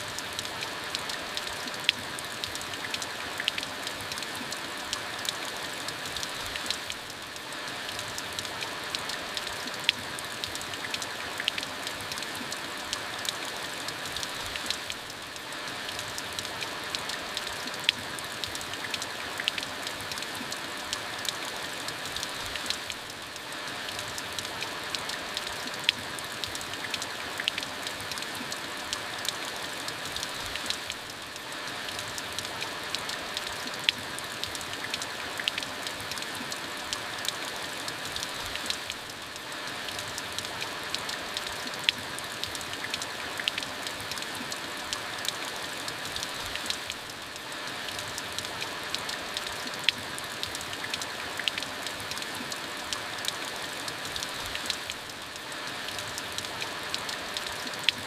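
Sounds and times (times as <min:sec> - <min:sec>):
steady rain with ticking drops: 0:00.0 - 0:58.0.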